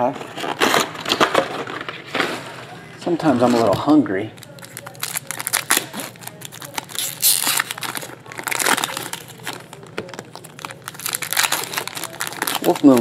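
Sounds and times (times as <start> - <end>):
plastic wrappers crinkling: 0.0 - 13.0.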